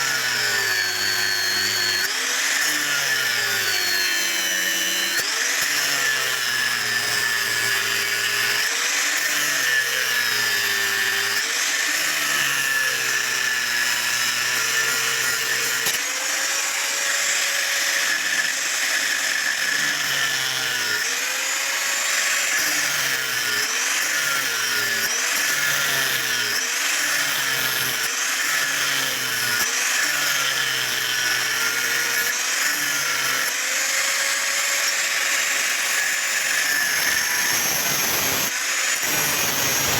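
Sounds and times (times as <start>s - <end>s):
electric grinder on steel: 0.0s - 39.9s.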